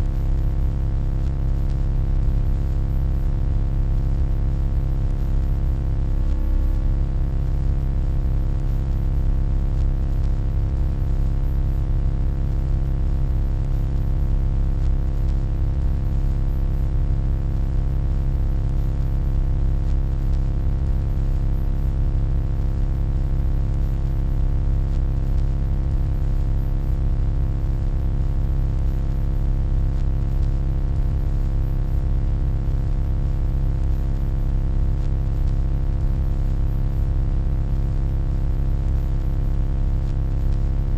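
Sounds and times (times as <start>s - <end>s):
electronic hum: 0.0s - 40.9s.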